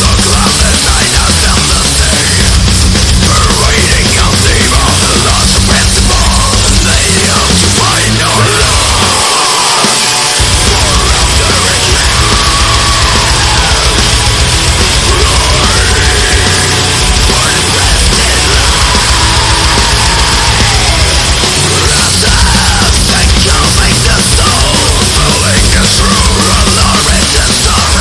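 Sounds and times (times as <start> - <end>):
dense instrumental music: 0.0 - 28.0.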